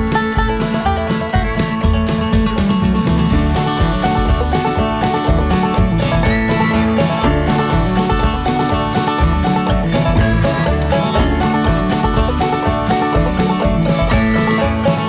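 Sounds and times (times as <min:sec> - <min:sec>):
instrumental bluegrass music: 0:00.0 - 0:15.0.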